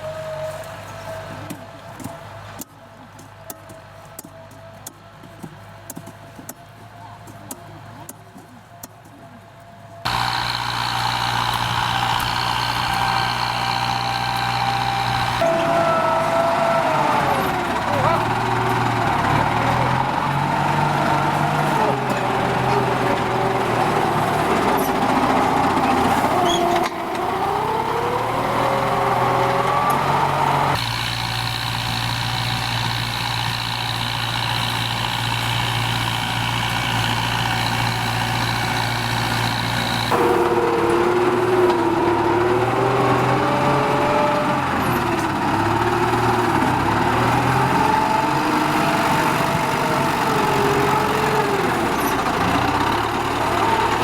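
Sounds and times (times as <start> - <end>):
tractor diesel engine under load: 0.0 - 2.6, 10.0 - 54.0.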